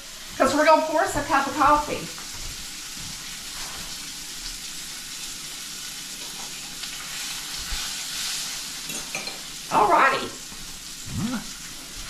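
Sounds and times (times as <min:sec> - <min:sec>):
sausage sizzling in a skillet: 0:00.0 - 0:12.0.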